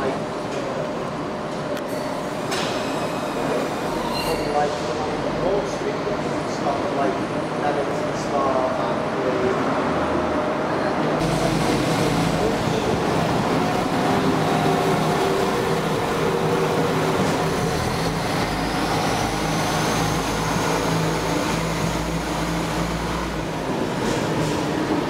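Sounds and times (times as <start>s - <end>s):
train engine low hum: 0.0s - 25.0s.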